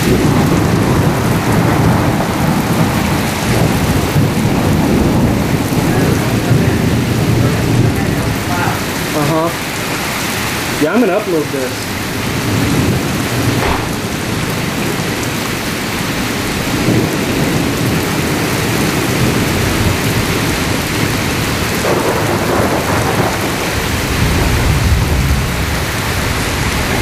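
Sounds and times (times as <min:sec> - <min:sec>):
low rolling thunder: 0:00.0 - 0:09.8, 0:11.6 - 0:27.0
heavy rain pouring: 0:00.0 - 0:27.0.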